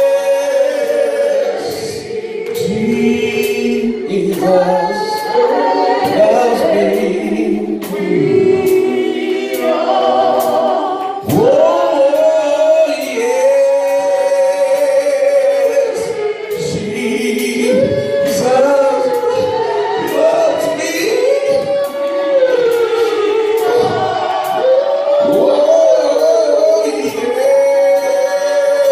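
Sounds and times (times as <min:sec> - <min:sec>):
group singing gospel: 0:00.0 - 0:28.9.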